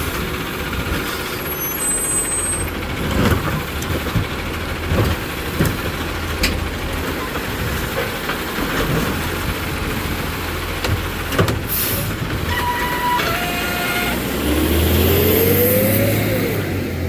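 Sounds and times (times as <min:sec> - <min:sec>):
garbage truck engine running: 0:00.0 - 0:17.0.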